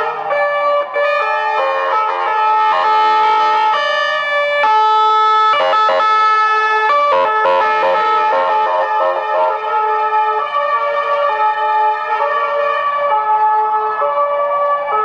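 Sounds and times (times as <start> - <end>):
ambulance sirens: 0.0 - 15.0.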